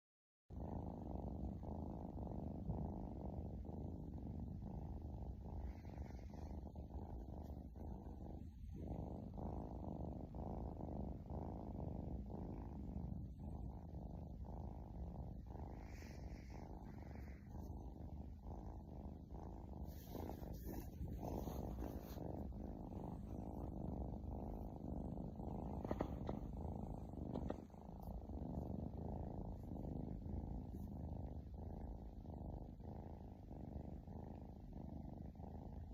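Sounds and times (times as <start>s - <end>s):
kitten purring: 0.5s - 35.9s.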